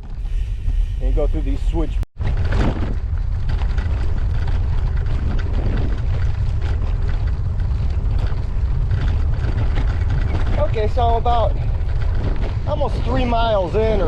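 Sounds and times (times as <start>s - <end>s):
bicycle tyres rolling on gravel: 0.0s - 14.0s
wind buffeting microphone: 0.0s - 14.0s.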